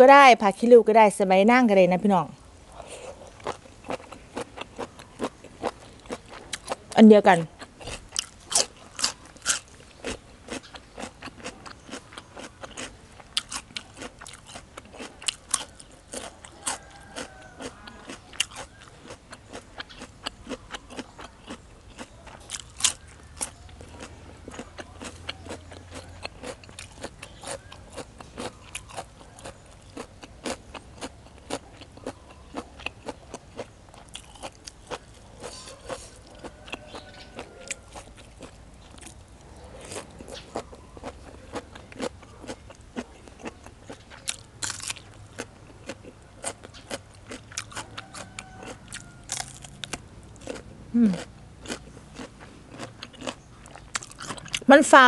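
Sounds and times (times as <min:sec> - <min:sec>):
crunching raw vegetables: 0:02.7 - 0:55.0.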